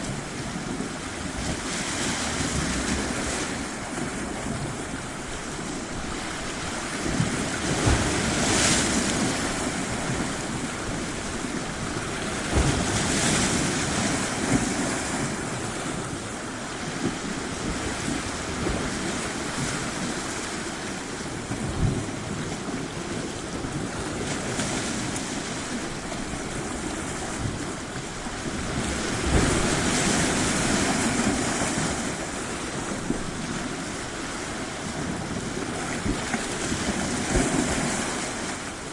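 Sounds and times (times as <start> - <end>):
surf washing on shore: 0.0 - 38.9
waves breaking: 0.0 - 38.9.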